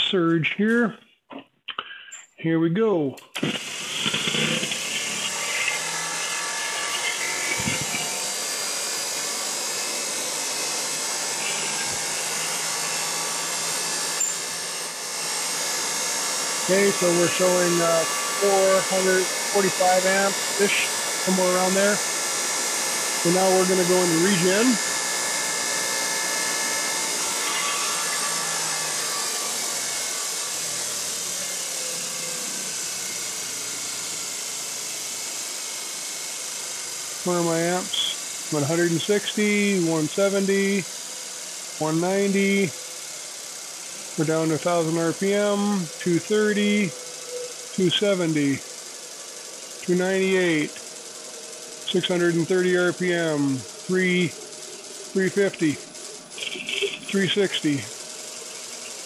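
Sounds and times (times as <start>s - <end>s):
electric motor whine: 3.4s - 59.0s.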